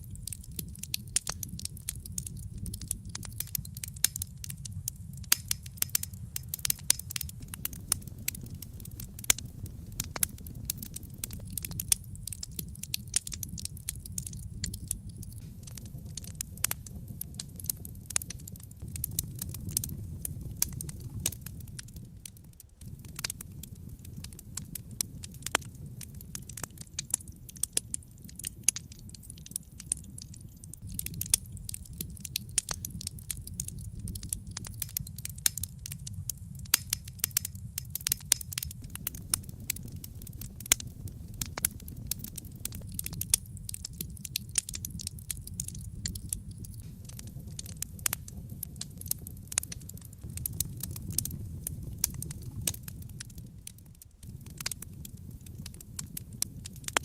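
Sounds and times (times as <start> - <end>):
fire pops and snaps: 0.0 - 57.0
low rumble of fire: 0.0 - 57.0.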